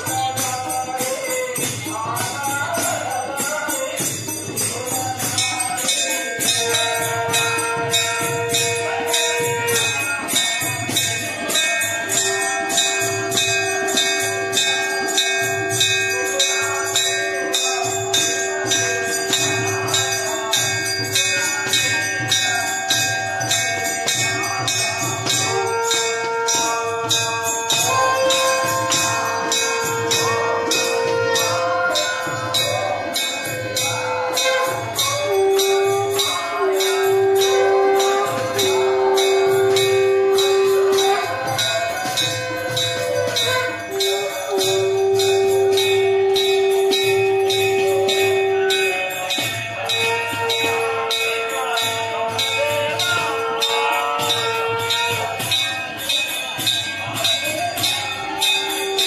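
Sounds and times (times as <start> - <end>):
jingling percussion: 0.0 - 59.0.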